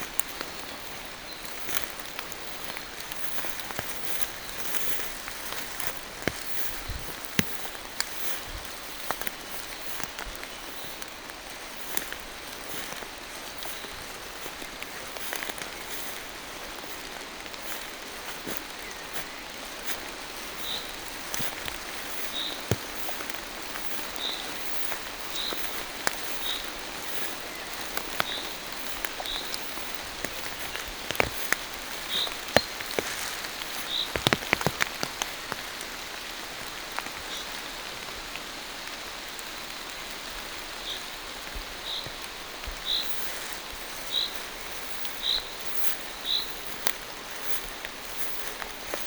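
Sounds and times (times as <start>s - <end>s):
rain falling on forest: 0.0s - 49.0s.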